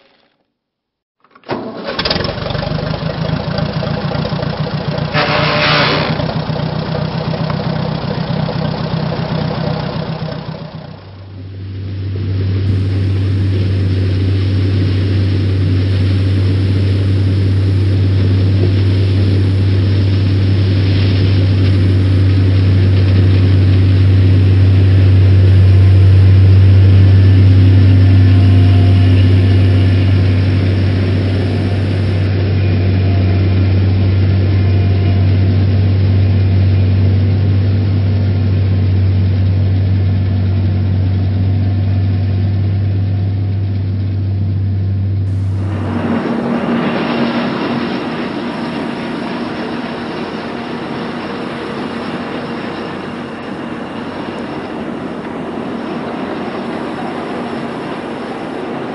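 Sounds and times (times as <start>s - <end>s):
combine harvester engine drone: 1.3s - 58.9s.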